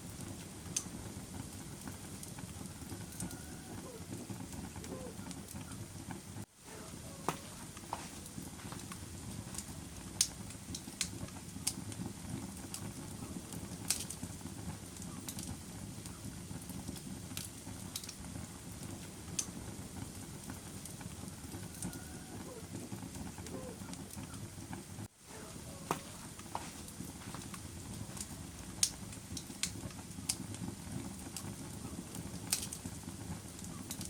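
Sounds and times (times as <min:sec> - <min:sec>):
fire crackles and pops: 0:00.0 - 0:34.0
low rumble of flame: 0:00.0 - 0:34.0.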